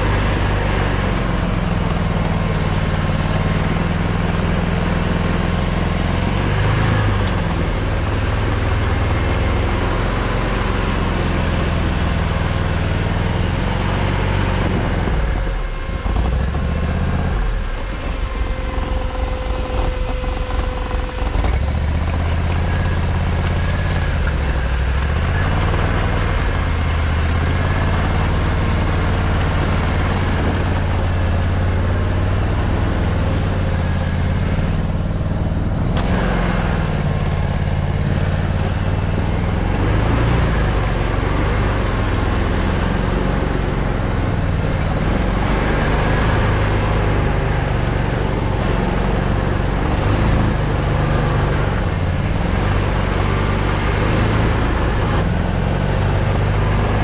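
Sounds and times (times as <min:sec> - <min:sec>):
tracked vehicle engine running: 0:00.0 - 0:57.0.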